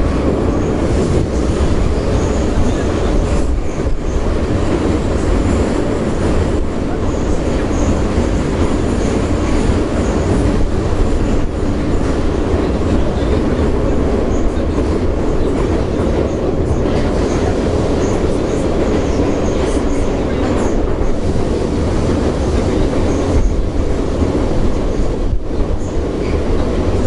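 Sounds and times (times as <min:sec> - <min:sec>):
metro train wheels rumbling: 0:00.0 - 0:27.0.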